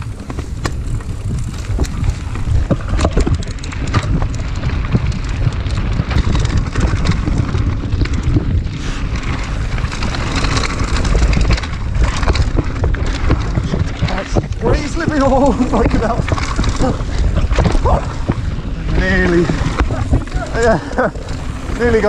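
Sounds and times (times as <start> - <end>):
bike rattling: 0.0 - 22.0
tyres crunching over gravel: 0.0 - 22.0
wind buffeting microphone: 0.0 - 22.0.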